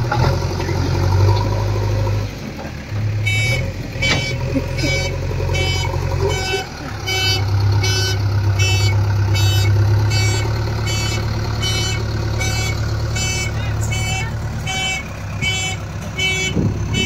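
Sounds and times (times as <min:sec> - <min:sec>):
diesel engine revving: 0:00.0 - 0:17.0
reversing alarm beeping: 0:03.2 - 0:17.0.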